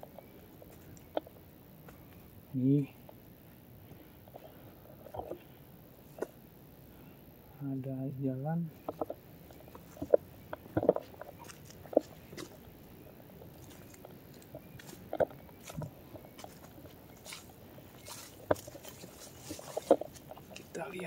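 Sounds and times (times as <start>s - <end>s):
footsteps crunching on trail: 0.0s - 6.4s, 8.7s - 21.0s.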